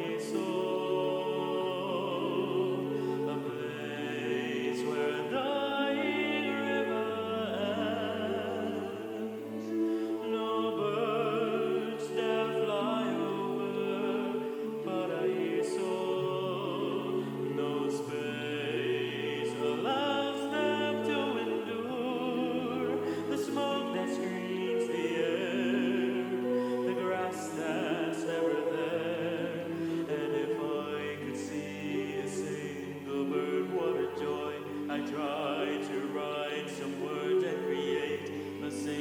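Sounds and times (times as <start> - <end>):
musical accompaniment: 0.0 - 39.0
person singing classical style: 0.0 - 39.0.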